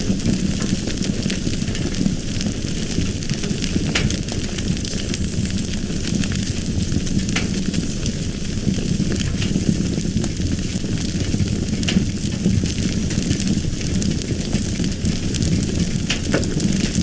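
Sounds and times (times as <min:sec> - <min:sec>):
fire burning with low rumble: 0:00.0 - 0:17.0
fire crackles and pops: 0:00.0 - 0:17.0.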